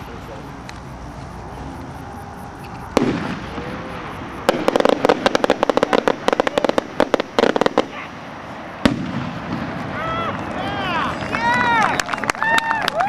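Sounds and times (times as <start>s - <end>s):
skyrocket sharp report: 0.0s - 11.9s.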